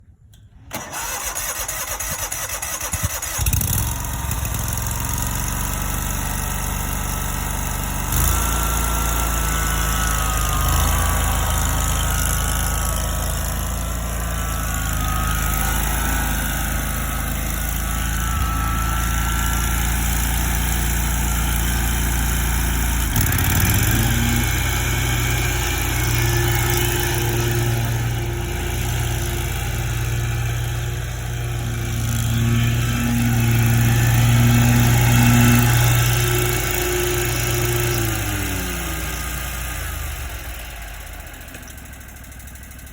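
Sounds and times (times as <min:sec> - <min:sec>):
mower engine cranking and running: 0:00.3 - 0:42.9.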